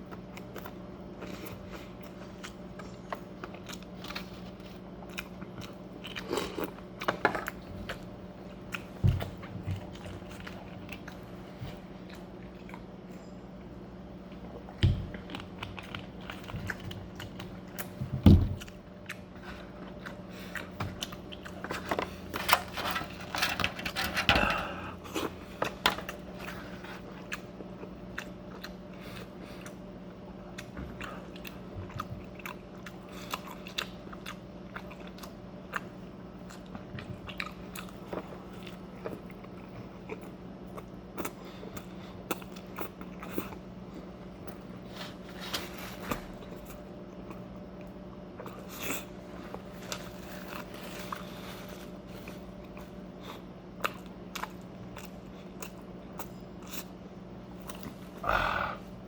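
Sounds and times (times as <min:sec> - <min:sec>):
person chewing food: 0:00.0 - 0:59.0
steady low hum: 0:00.0 - 0:59.0.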